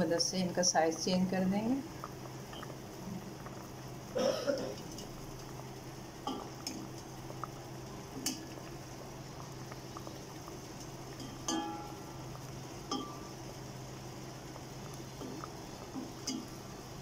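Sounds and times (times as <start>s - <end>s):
syrup bubbling: 0.0s - 17.0s.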